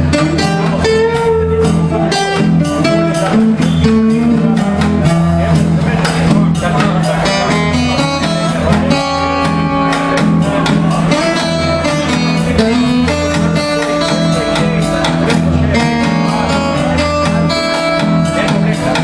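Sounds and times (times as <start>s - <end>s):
acoustic guitar strumming: 0.0s - 19.0s
drum kit beat: 0.0s - 19.0s.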